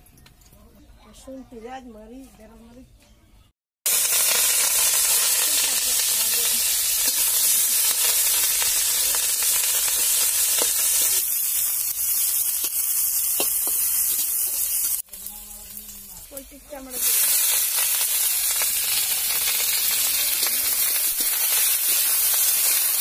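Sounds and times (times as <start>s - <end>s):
food sizzling in hot oil: 3.9s - 23.0s.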